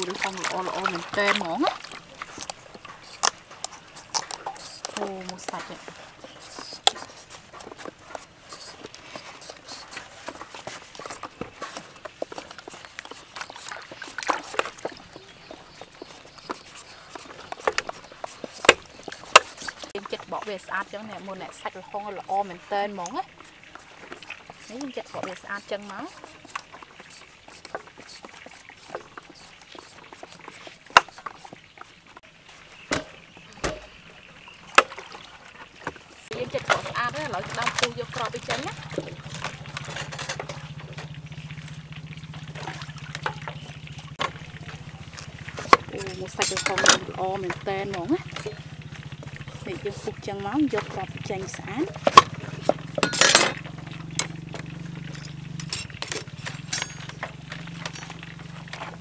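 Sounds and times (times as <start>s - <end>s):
metal peelers scraping papaya: 0.0s - 32.1s, 36.3s - 53.7s.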